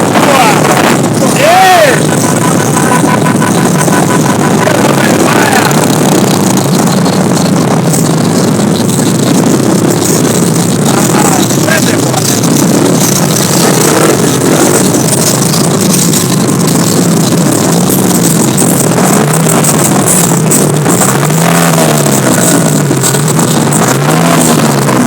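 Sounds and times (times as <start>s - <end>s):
heavy rush of noise: 0.0s - 25.0s
motorcycle engine revving: 0.0s - 25.0s.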